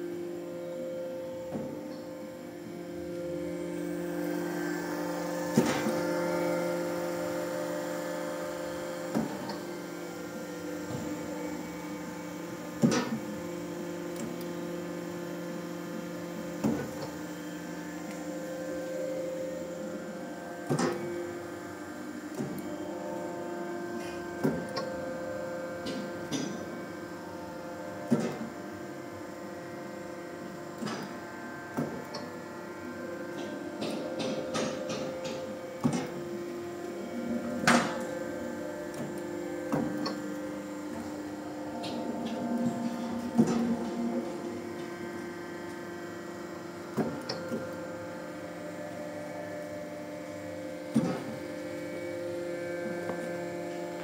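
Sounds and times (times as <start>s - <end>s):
extruder machine humming: 0.0s - 54.0s.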